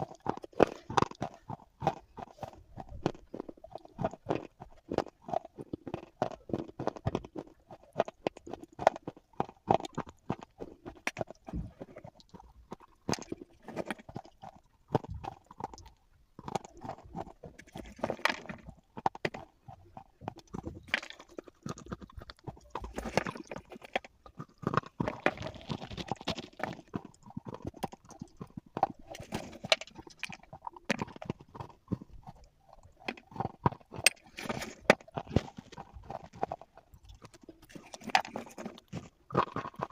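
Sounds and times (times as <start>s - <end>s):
slate pencils crunching when chewed: 0.0s - 39.9s.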